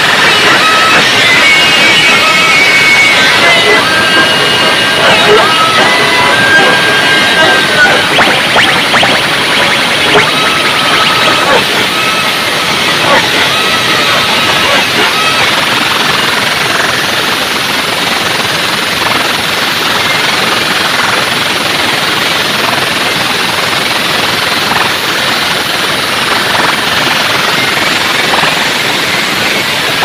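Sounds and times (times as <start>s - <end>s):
distorted sound system roar: 0.0s - 30.0s.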